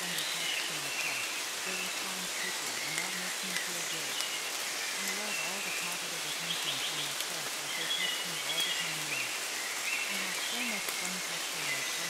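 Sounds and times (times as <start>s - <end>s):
faint low voice speaking: 0.0s - 4.2s, 5.0s - 9.4s, 10.1s - 12.0s
rain: 0.0s - 12.0s.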